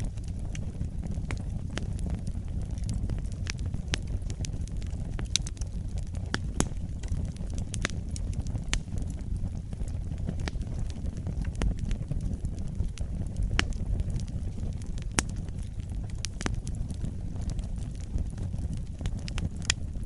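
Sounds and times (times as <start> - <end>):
fire crackles and pops: 0.0 - 20.0
low rumble of flames: 0.0 - 20.0.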